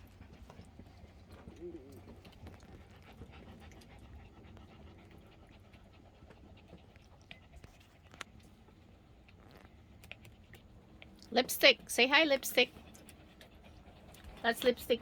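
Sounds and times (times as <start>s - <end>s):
dog panting: 0.0s - 15.0s
low steady hum: 0.0s - 15.0s.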